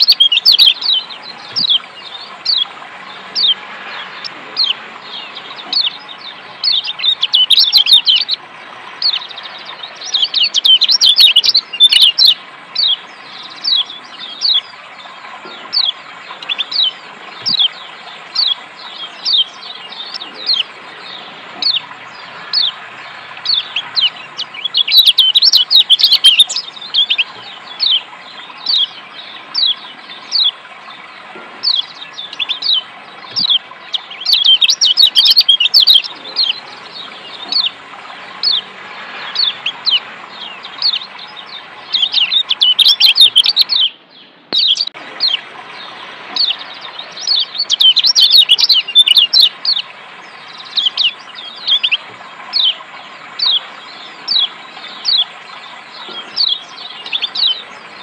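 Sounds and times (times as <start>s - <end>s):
bird chirping: 0.0s - 58.0s
running water: 0.0s - 58.0s.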